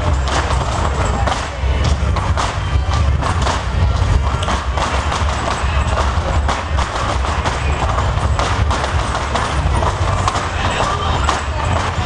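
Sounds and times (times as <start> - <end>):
flamenco music: 0.0 - 12.0
shoes stamping on stage floor: 0.0 - 12.0.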